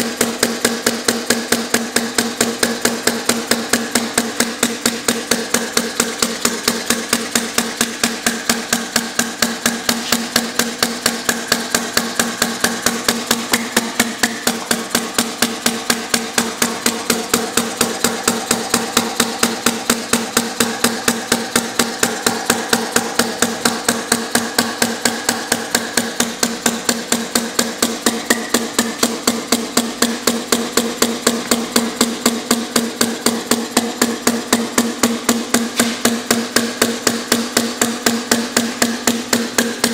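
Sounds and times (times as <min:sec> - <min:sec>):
model air engine clacking: 0:00.0 - 0:39.9.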